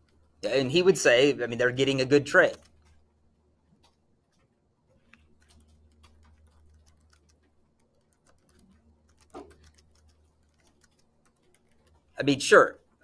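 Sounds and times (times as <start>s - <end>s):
faint keyboard typing: 0.0s - 1.0s, 1.7s - 13.0s.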